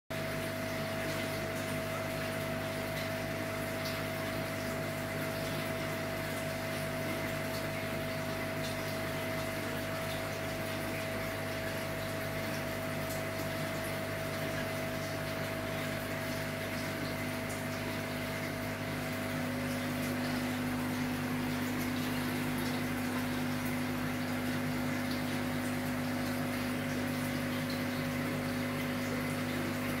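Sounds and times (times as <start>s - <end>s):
electric air pump humming: 2.5s - 30.0s.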